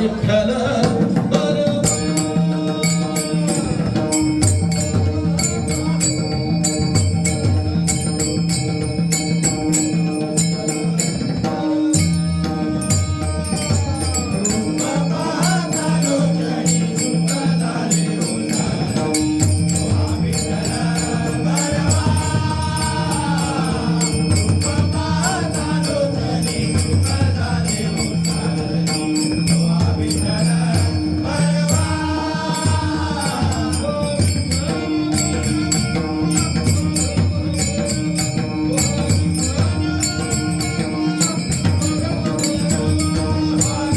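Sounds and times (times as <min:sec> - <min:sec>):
pakhawaj drumming: 0:00.0 - 0:43.9
small hand cymbals: 0:01.7 - 0:43.9.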